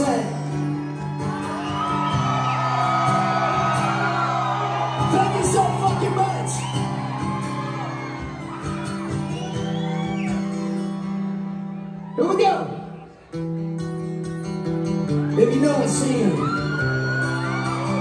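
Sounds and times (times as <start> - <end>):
crowd whooping and yelling: 0.0 - 13.3, 14.8 - 18.0.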